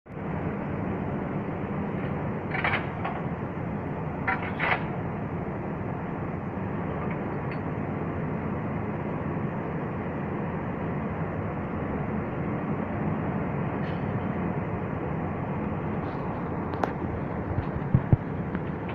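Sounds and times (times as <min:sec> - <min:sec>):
diesel engine humming: 0:00.1 - 0:18.9.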